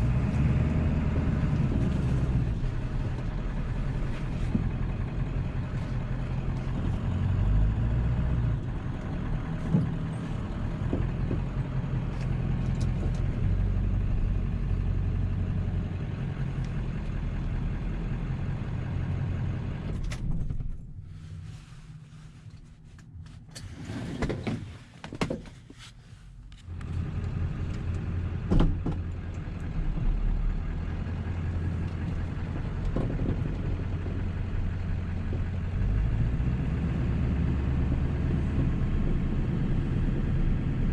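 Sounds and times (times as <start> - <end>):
diesel engine and road rumble: 0.0 - 40.9.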